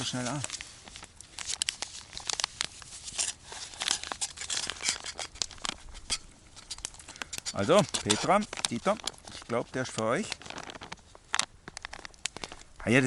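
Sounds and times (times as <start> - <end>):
crinkling and rustling: 0.0 - 13.0
sharp crackles: 0.0 - 13.0.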